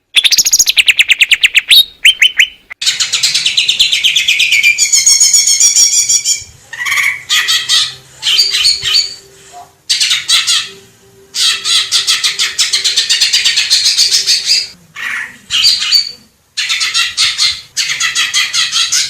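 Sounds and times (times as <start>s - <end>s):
bird singing rapid chattering phrases: 0.0s - 9.2s, 11.4s - 19.0s.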